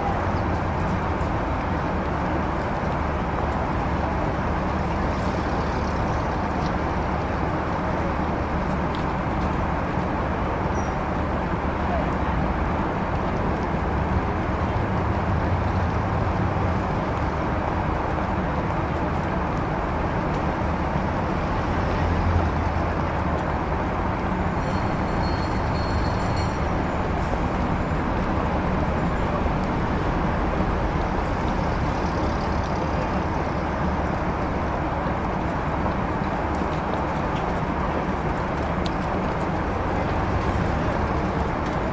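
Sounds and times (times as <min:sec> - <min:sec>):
traffic engine rumble: 0:00.0 - 0:41.9.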